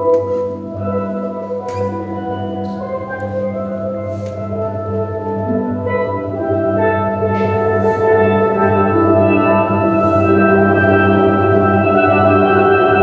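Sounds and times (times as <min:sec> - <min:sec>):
steelpans playing rolled chords: 0:00.0 - 0:13.0.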